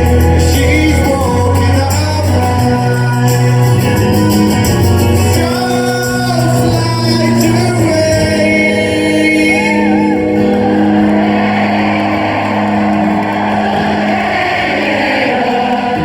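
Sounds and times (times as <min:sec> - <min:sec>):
crowd roar: 0:00.0 - 0:16.0
rock band sustained chords: 0:00.0 - 0:16.0.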